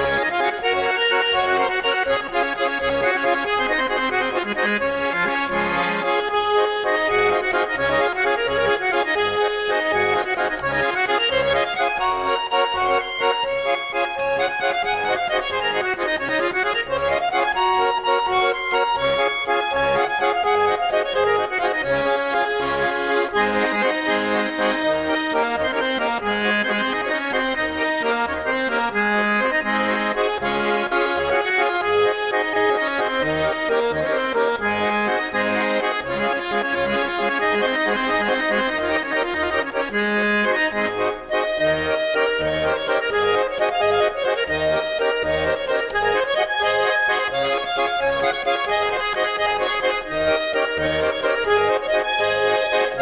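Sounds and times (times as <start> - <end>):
accordion folk tune: 0.0 - 53.0.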